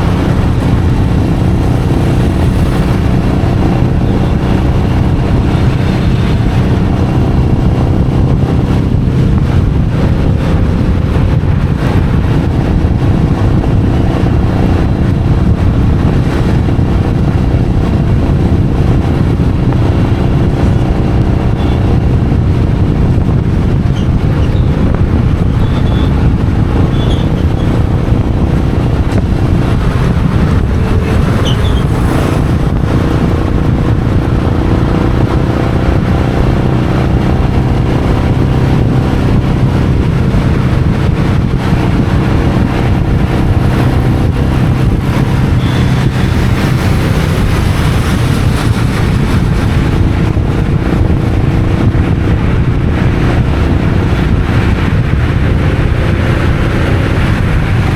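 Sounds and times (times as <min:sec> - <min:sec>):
motorcycle engine running: 0:00.0 - 0:57.9
road and wind noise: 0:00.0 - 0:57.9.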